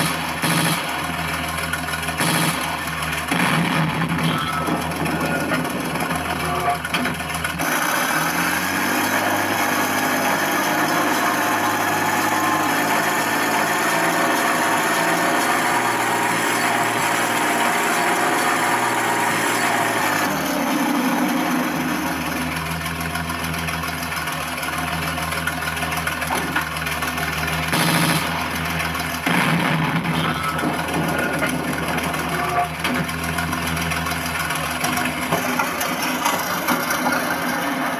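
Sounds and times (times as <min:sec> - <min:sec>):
tank engine sound through small speaker: 0:00.0 - 0:37.9.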